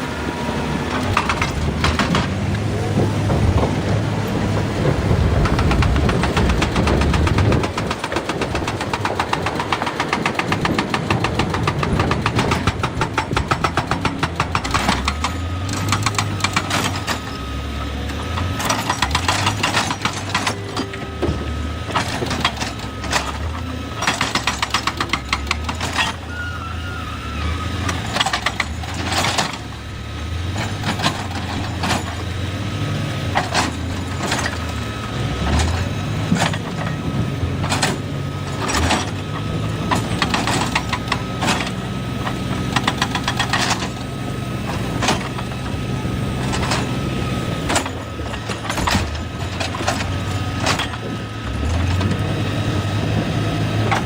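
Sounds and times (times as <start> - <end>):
excavator diesel engine: 0.0 - 54.0
fast dense clatter: 0.9 - 17.4, 18.4 - 26.2, 33.3 - 54.0.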